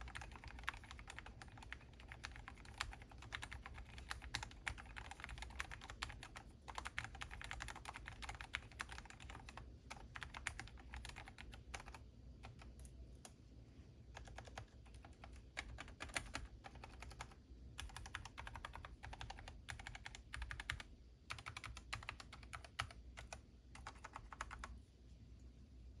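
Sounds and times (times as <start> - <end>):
mechanical keyboard typing: 0.0 - 13.3, 14.2 - 24.7.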